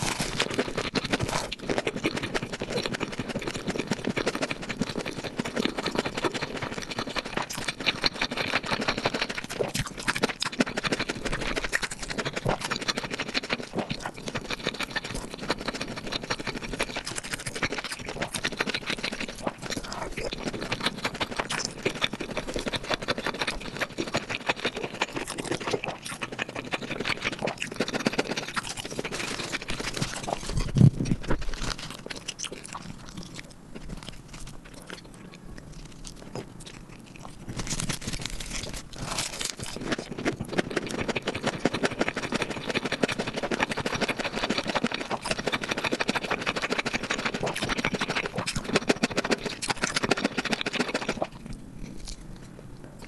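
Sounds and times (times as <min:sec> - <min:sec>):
close chewing and crunching: 0:00.0 - 0:53.0.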